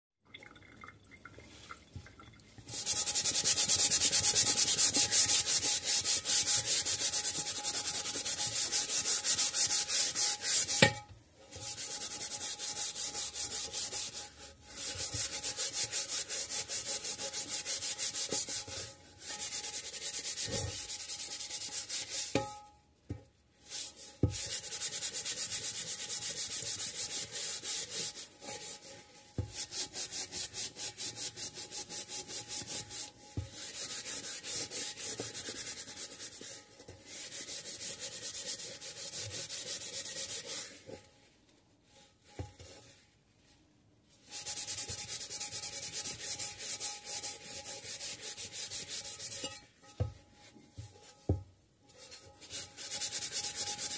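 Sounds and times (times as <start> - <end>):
cloth scrubbing frying pan: 1.4 - 22.7, 23.4 - 53.9.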